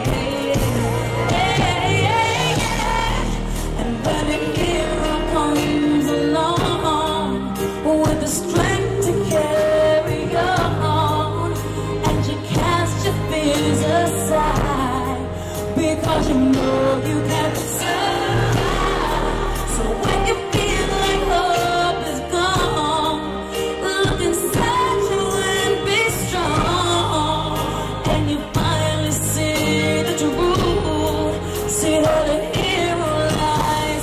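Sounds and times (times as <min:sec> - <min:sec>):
band accompaniment: 0:00.0 - 0:34.0
woman singing pop ballad: 0:00.0 - 0:34.0.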